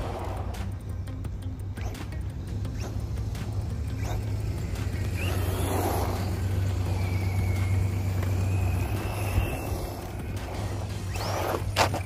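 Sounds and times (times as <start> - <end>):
electric motor whine: 0.0 - 12.0
low hum: 0.0 - 12.0.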